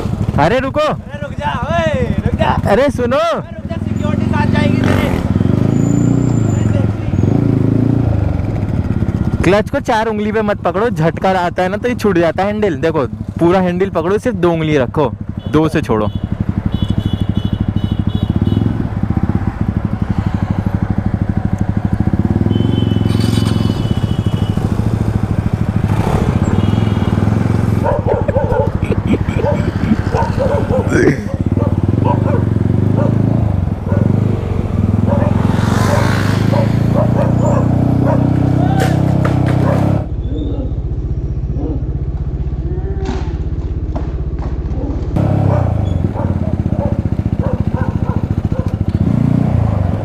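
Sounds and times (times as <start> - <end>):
motorcycle engine idling: 0.0 - 5.5, 8.1 - 35.5, 40.1 - 50.0.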